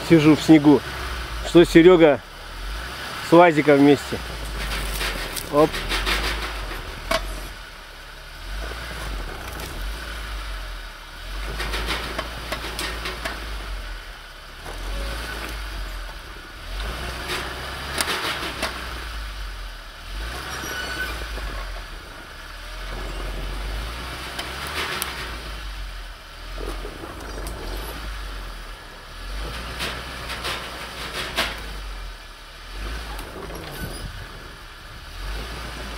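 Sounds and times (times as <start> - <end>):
suv engine revving: 0.0 - 35.9.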